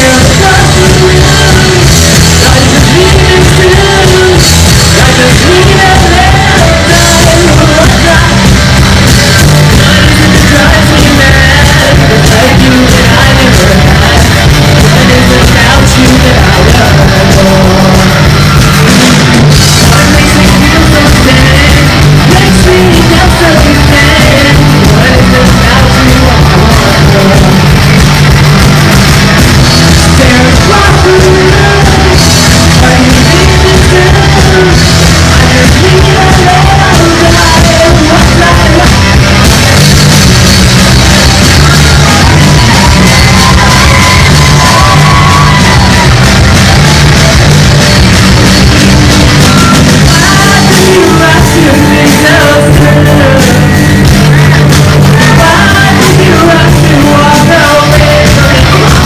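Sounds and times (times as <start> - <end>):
bass guitar: 0.0 - 59.0
drums: 0.0 - 59.0
electric guitars: 0.0 - 59.0
lead singer singing: 0.0 - 59.0.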